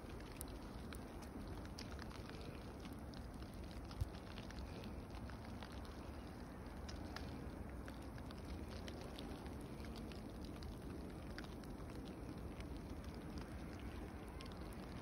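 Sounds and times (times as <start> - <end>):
ice pellets ticking: 0.0 - 15.0.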